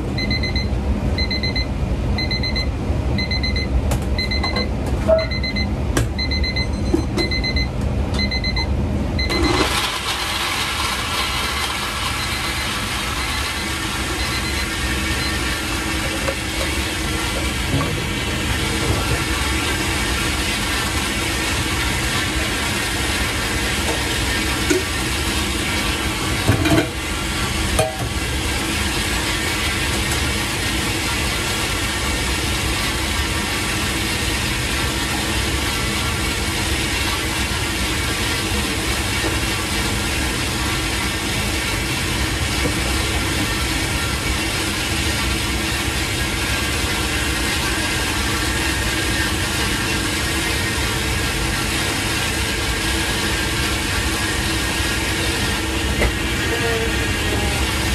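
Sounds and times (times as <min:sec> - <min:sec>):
blender motor running: 0:09.2 - 0:57.9.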